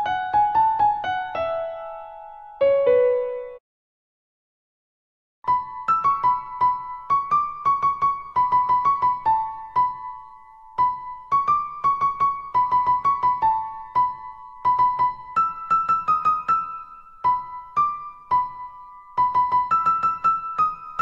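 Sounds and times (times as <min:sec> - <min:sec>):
light keyboard melody: 0:00.0 - 0:03.6, 0:05.5 - 0:21.0.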